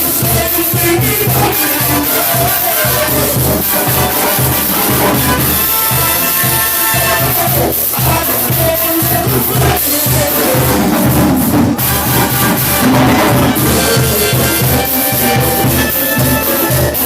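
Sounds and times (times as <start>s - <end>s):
cumbia band music: 0.0s - 17.0s.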